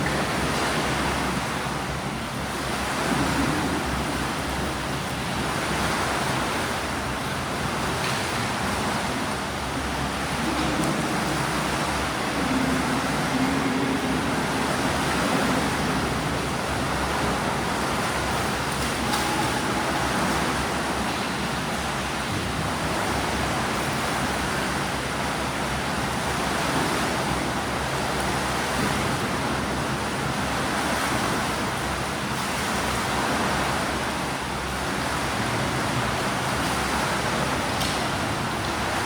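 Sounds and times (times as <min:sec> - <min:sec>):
swimmers splashing in a pool: 0:00.0 - 0:39.0.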